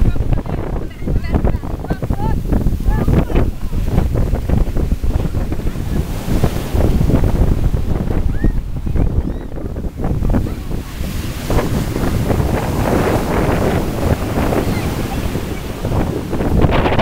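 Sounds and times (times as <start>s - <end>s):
surf breaking on beach: 0.0s - 17.0s
wind buffeting microphone: 0.0s - 17.0s.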